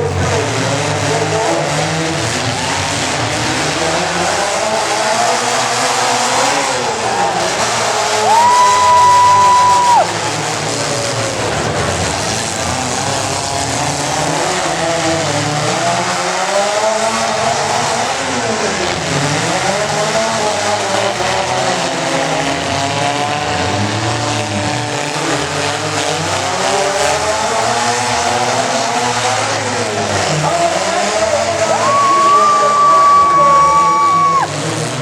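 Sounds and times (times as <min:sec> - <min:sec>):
truck engine revving high: 0:00.0 - 0:35.0.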